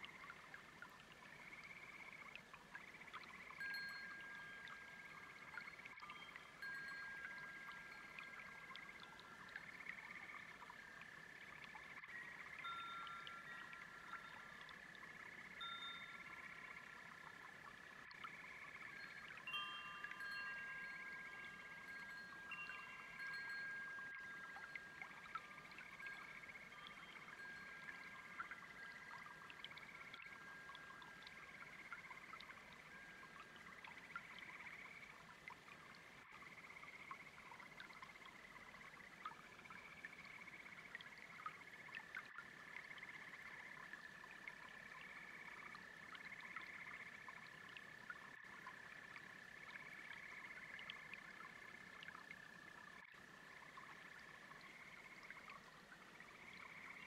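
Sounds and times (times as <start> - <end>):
brook babbling: 0.0 - 57.0
frogs and toads trilling: 0.0 - 57.0.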